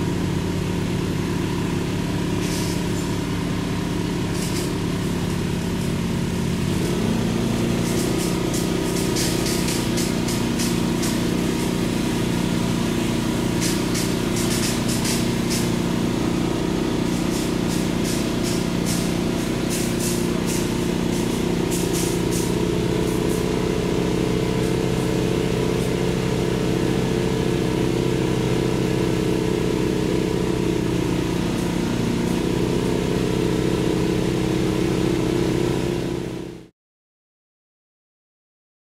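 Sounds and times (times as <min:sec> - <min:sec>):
engine running: 0:00.0 - 0:36.7.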